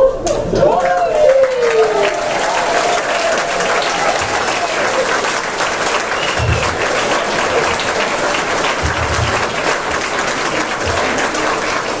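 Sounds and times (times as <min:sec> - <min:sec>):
audience applauding: 0:00.5 - 0:12.0.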